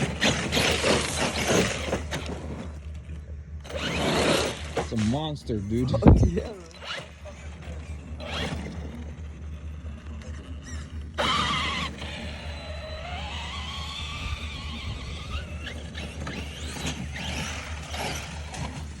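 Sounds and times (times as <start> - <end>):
toy truck motor whining: 0.0 - 19.0.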